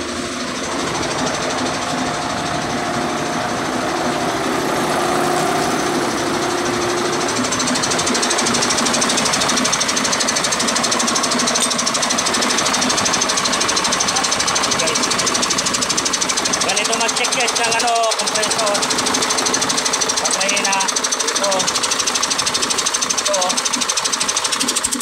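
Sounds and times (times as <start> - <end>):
air compressor pulsing: 0.0 - 25.0
diesel engine running: 0.0 - 25.0.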